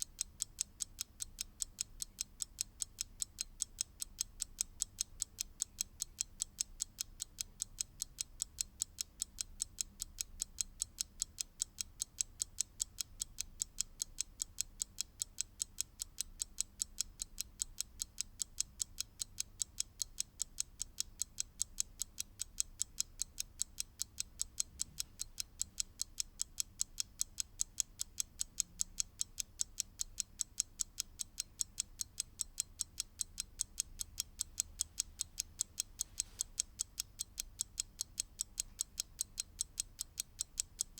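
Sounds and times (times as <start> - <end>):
mechanical clock ticking: 0.0 - 40.9.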